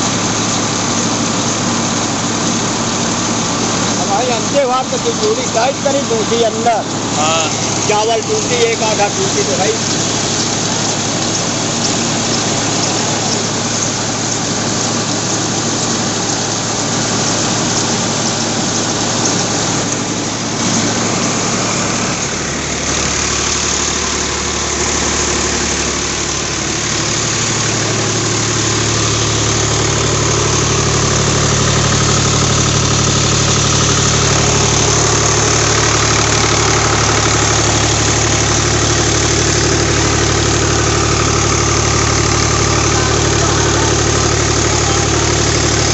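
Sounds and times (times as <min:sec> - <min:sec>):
rice huller rushing noise: 0:00.0 - 0:45.9
tractor diesel engine under load: 0:00.0 - 0:45.9.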